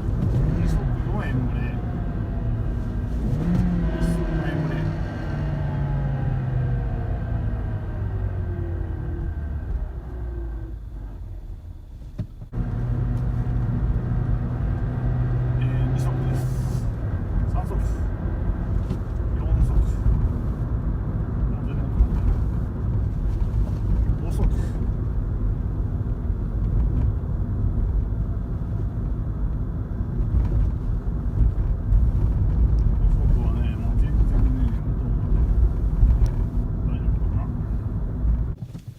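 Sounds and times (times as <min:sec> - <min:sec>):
car engine from inside cabin: 0:00.0 - 0:38.9
road noise: 0:00.0 - 0:38.9.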